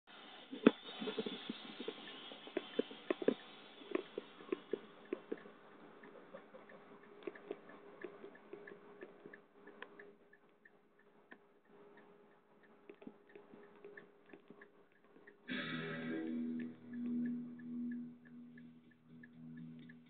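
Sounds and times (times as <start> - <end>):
steady sound with pitched tones: 0.1 - 20.0.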